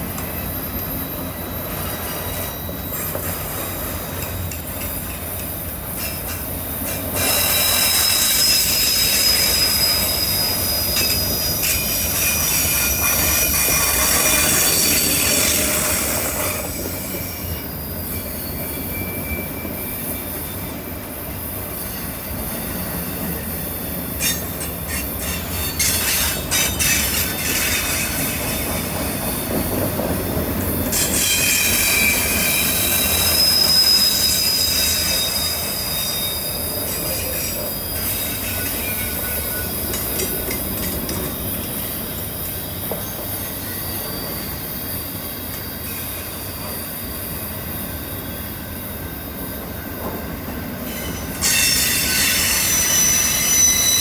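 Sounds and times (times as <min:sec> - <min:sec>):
train wheels rumbling: 0:00.0 - 0:54.0
wheel flanges squealing on rail: 0:00.0 - 0:54.0.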